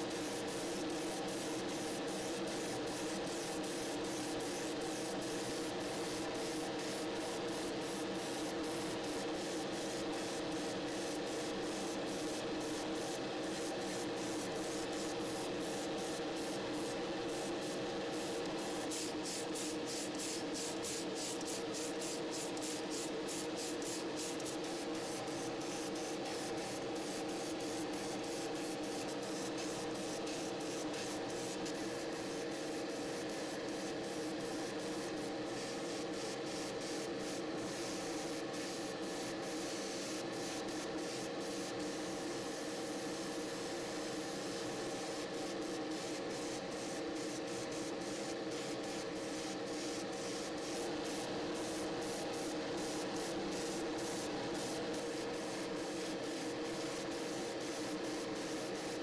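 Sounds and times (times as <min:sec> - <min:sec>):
airbrush spraying hiss: 0:00.4 - 0:42.2, 0:44.5 - 0:59.0.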